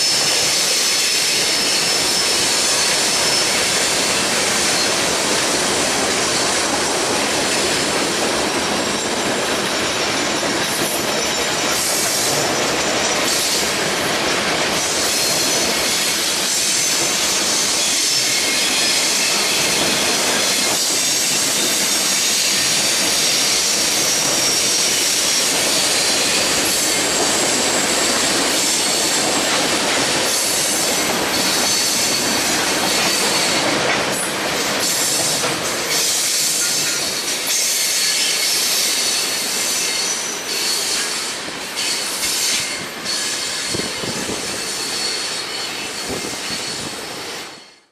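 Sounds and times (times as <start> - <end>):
high wheel squeal: 0.0 - 13.8, 14.4 - 47.9
steel wheels rolling on rail: 0.0 - 47.9.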